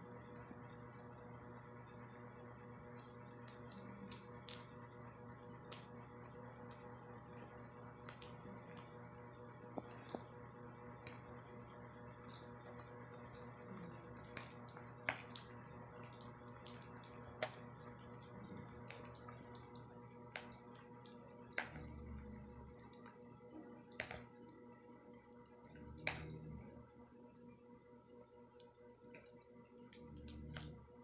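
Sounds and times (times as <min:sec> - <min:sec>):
faint steady hum: 0:00.0 - 0:31.0
wet eating sounds: 0:00.1 - 0:26.9, 0:28.6 - 0:31.0.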